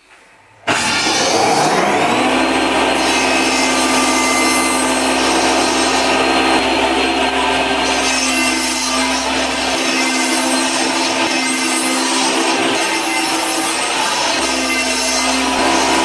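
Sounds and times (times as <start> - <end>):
saw blade cutting wood: 0.7 - 16.0
table saw motor running: 0.7 - 16.0.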